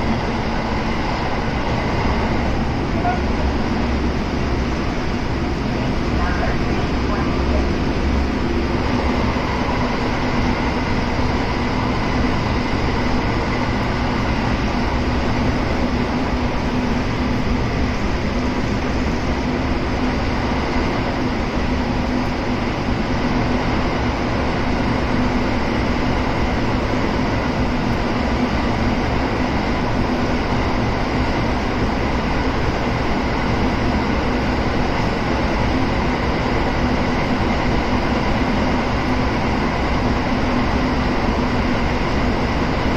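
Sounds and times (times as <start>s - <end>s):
train wheels and motors rumbling: 0.0s - 42.9s.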